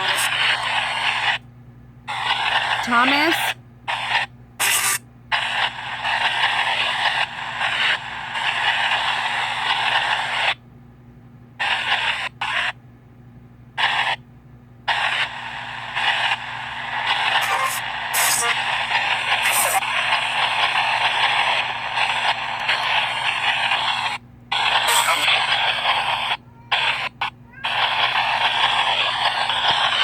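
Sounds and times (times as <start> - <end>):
radio fragments: 0.0 - 1.4, 2.1 - 10.6, 14.9 - 30.0
radio static bursts: 0.0 - 1.4, 2.1 - 10.6, 11.6 - 12.8, 14.9 - 30.0.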